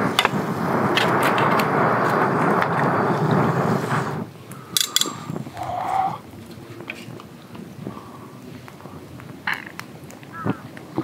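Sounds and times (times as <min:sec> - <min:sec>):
person blowing onto campfire: 0:00.0 - 0:09.6.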